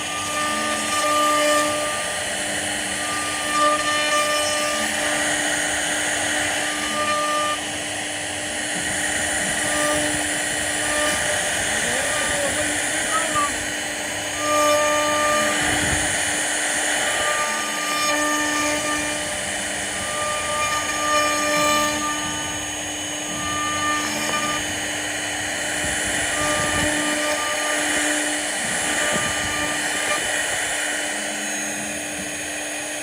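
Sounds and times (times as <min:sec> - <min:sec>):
cnc router carving wood: 0:00.0 - 0:33.0.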